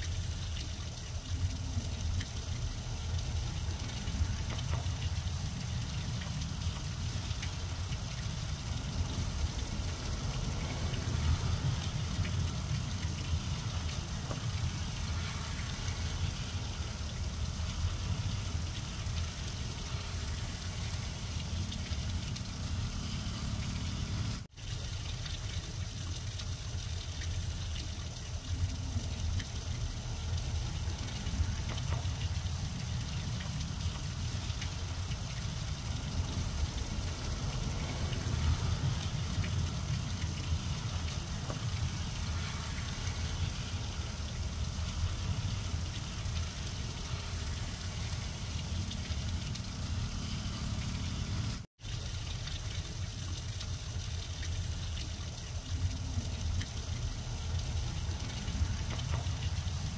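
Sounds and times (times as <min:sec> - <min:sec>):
heavy rain on grass: 0:00.0 - 0:25.4, 0:26.1 - 0:59.9.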